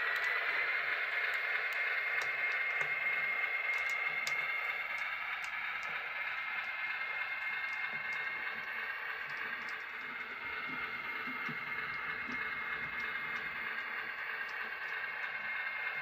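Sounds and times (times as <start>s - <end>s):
model train motor whining: 0.0s - 16.0s
wheels ticking over track: 0.0s - 16.0s.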